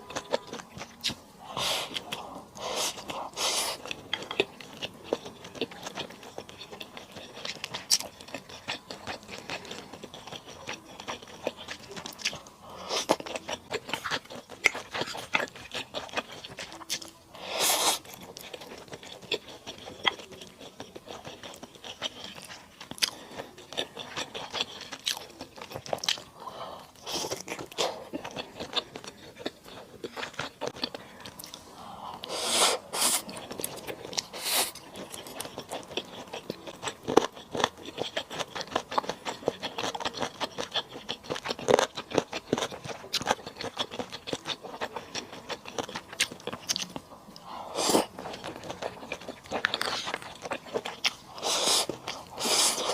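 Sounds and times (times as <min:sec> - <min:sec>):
close-miked chewing: 0:00.0 - 0:52.9.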